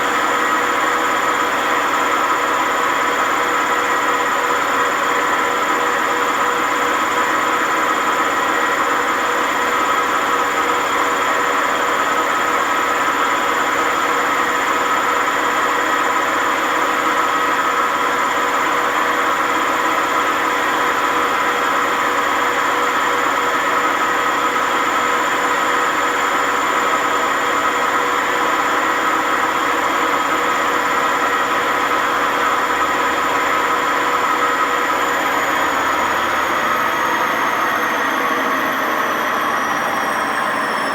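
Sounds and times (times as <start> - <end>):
washing machine bearings grinding hum: 0.0 - 40.9.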